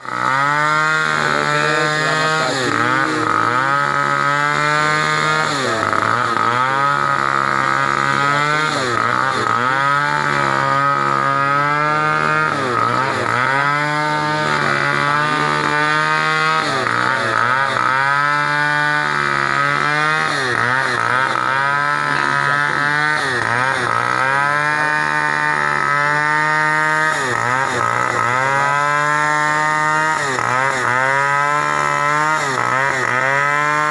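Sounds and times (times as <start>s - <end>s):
small engine running: 0.0s - 33.9s.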